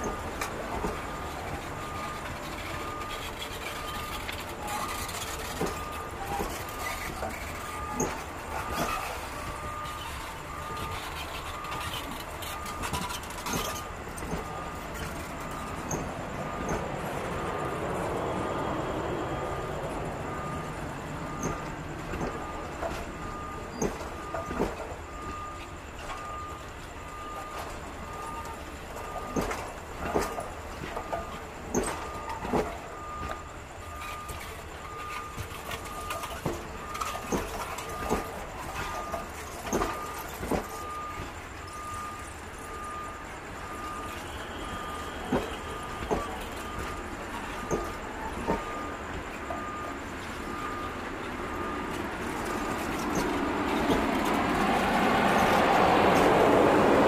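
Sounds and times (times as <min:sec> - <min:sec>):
low train rumble: 0:00.0 - 0:57.0
train wheels clicking on rails: 0:00.0 - 0:57.0
electronic beeping: 0:01.1 - 0:56.7.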